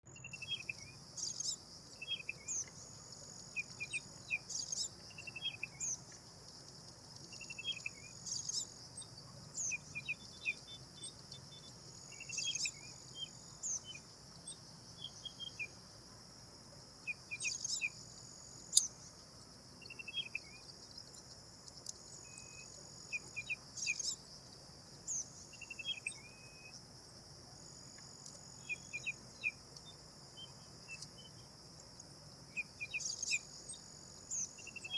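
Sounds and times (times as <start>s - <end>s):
high buzz of insects: 0.3s - 34.9s.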